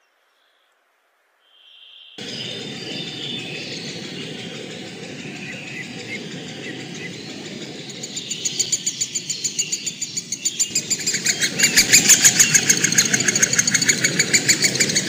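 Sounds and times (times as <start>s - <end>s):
low steady background rush: 2.2s - 15.0s.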